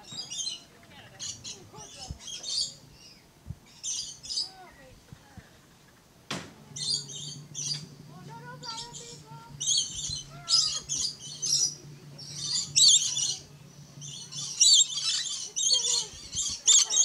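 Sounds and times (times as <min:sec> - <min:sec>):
lorikeets chattering: 0:00.0 - 0:04.7, 0:06.8 - 0:17.0
steady low hum: 0:00.0 - 0:17.0.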